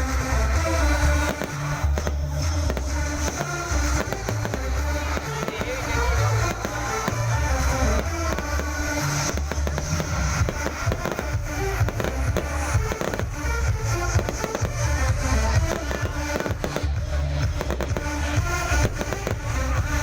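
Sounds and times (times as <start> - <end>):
fireworks bangs and crackles: 0.0 - 20.0
loud music with heavy bass: 0.0 - 20.0.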